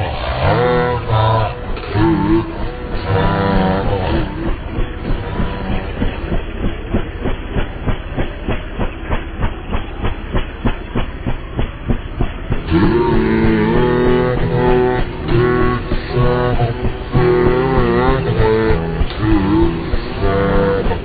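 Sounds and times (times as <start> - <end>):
strummed guitar tune: 0.0 - 21.0
fast clacking beat: 1.0 - 21.0.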